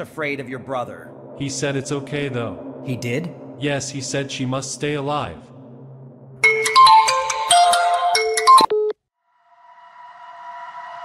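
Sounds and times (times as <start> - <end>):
eerie droning background music: 0.0 - 8.4, 9.3 - 11.0.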